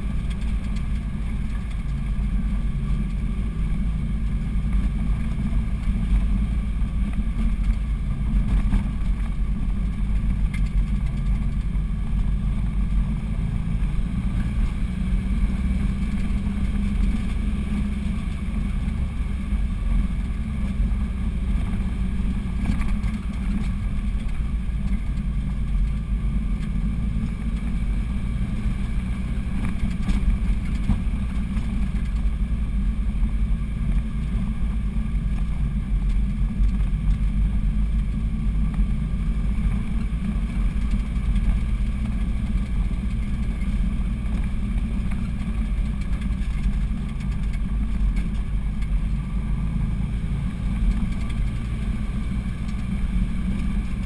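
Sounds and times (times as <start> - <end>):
road noise: 0.0 - 54.0
vehicle engine droning under load: 0.0 - 54.0.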